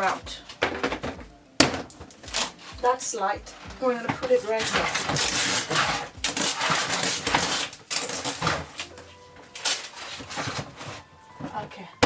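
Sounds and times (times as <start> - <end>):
items rustling and clattering: 0.0 - 12.0.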